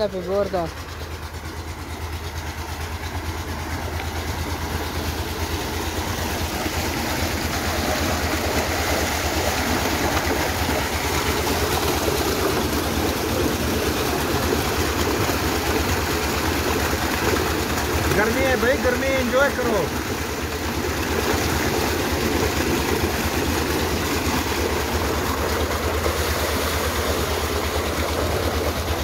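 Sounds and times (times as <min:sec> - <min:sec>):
diesel pump engine throbbing: 0:00.0 - 0:29.0
water gushing into a tank: 0:00.0 - 0:29.0.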